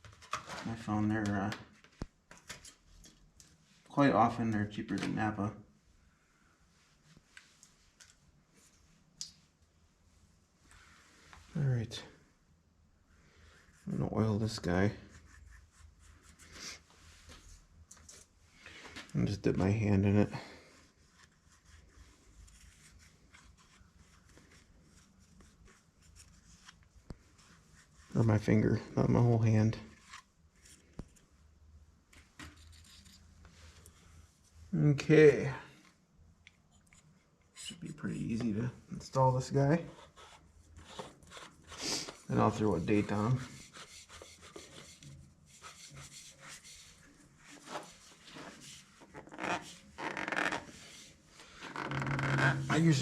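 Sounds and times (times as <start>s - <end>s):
soft handling noises: 0.0s - 5.5s, 6.2s - 12.3s, 13.5s - 53.0s.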